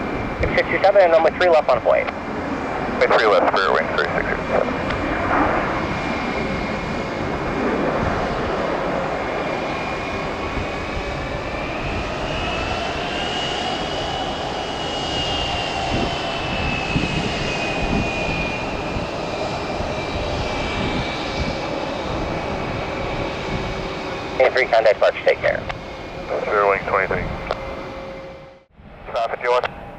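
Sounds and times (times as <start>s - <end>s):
jet engines rumbling and whining: 0.0s - 29.9s.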